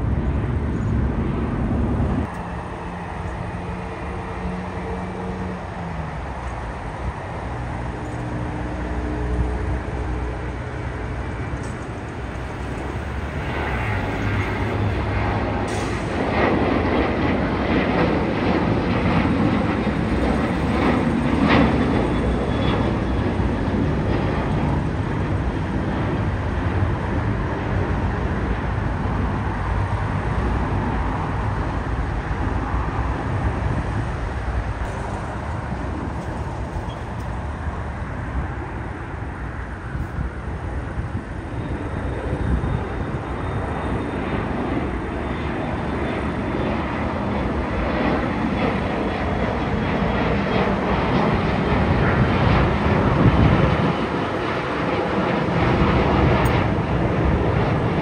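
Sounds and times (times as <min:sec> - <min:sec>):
jet engine noise at takeoff: 0:00.0 - 0:58.0.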